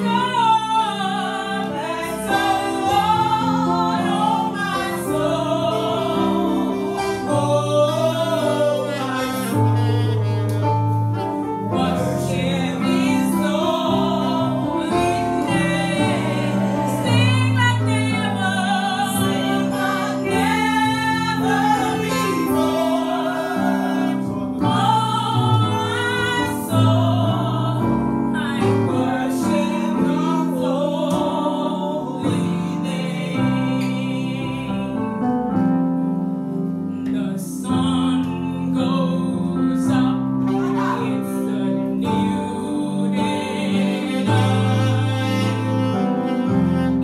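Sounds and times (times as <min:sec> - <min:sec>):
women singing gospel song: 0:00.0 - 0:10.6, 0:11.4 - 0:35.1, 0:37.0 - 0:46.0
electronic keyboard: 0:00.0 - 0:47.0.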